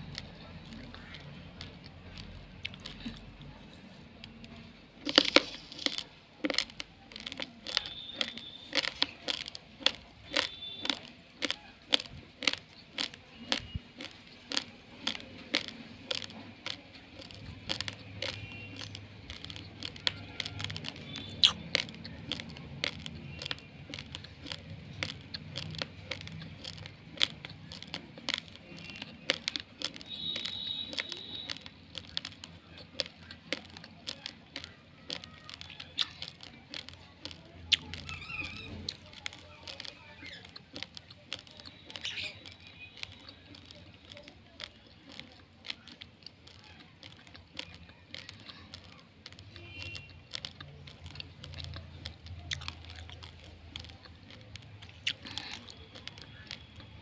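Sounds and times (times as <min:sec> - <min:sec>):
raw rice crunched between teeth: 0:00.0 - 0:57.0.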